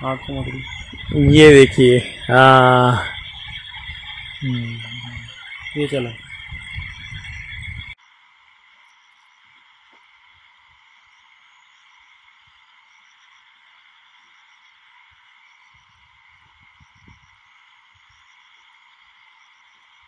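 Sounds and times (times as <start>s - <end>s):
high insect drone: 0.0s - 20.0s
insect chirps: 0.0s - 20.0s.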